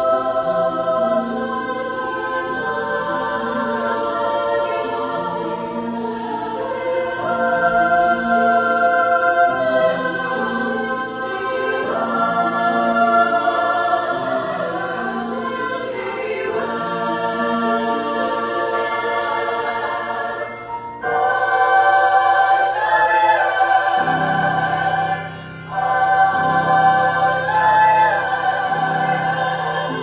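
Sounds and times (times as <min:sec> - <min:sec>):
women's choir singing chords: 0:00.0 - 0:30.0.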